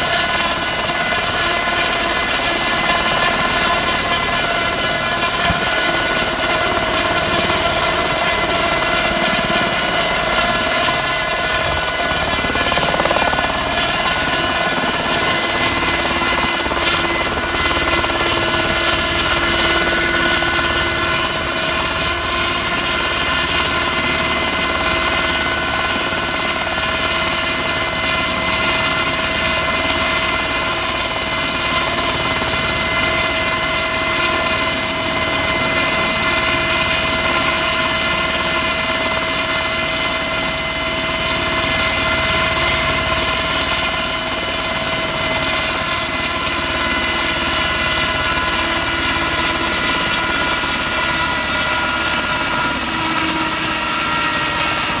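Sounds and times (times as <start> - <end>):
helicopter engine and rotor: 0.0 - 55.0
helicopter turbine whine: 0.0 - 55.0.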